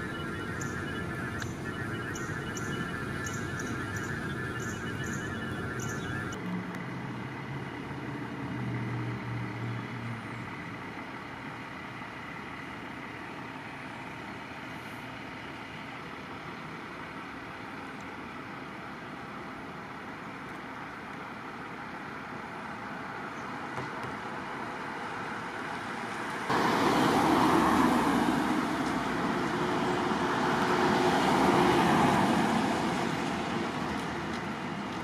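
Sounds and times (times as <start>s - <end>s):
road traffic rumble and hiss: 0.0s - 35.0s.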